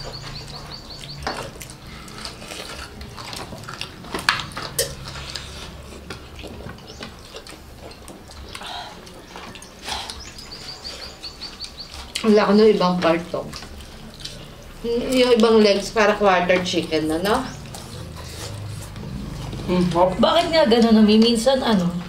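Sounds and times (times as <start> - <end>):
chewing and lip smacking: 0.0 - 22.0.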